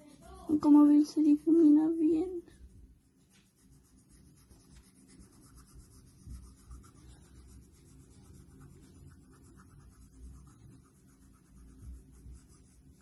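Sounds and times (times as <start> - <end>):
cotton bud rubbing on paper: 2.5 - 13.0.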